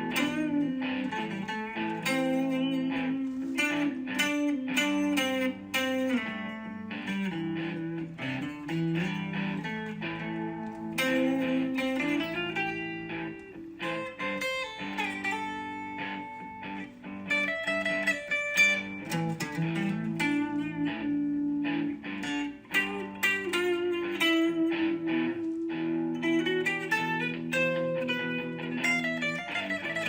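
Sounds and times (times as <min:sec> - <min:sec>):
plucked guitar melody: 0:00.0 - 0:30.0.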